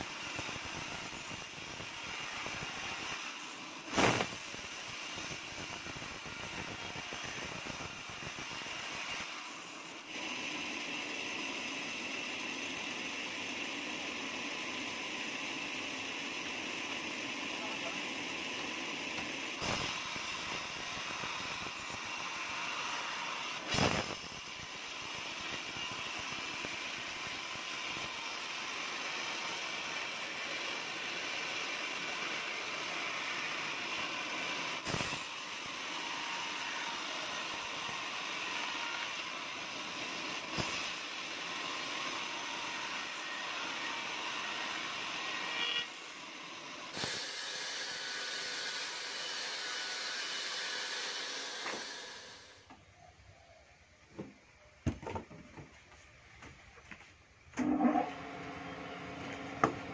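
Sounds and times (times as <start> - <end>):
band saw cutting log: 0.0 - 52.7, 57.6 - 59.9.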